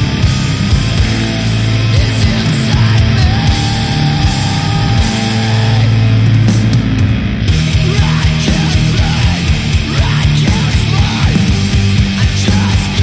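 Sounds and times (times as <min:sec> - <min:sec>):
heavy rock band playing: 0:00.0 - 0:13.0.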